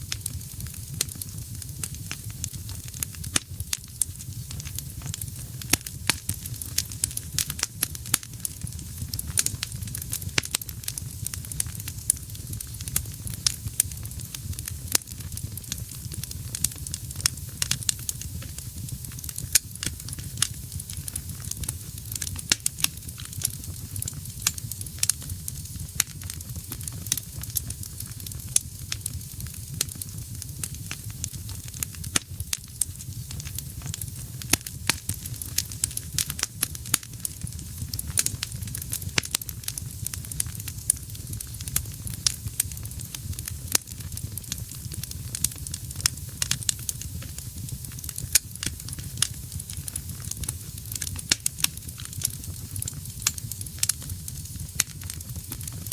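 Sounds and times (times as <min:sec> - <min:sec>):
fire crackling and popping: 0:00.0 - 0:55.9
flames rumbling and hissing: 0:00.0 - 0:55.9.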